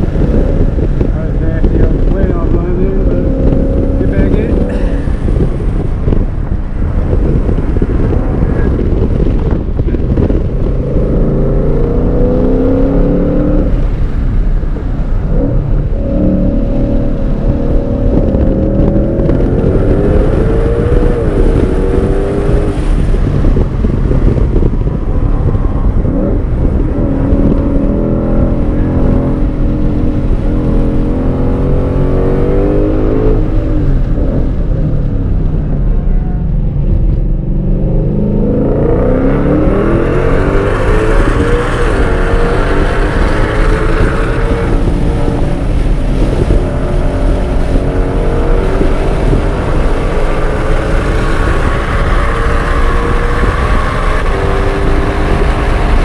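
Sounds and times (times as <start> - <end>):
car engine accelerating: 0.0 - 56.0
road and tyre noise: 0.0 - 56.0.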